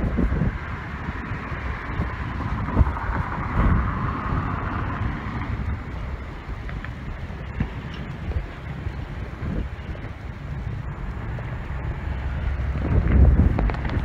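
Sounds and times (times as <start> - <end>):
steady hiss: 0.0 - 14.0
wind buffeting microphone: 0.0 - 14.0.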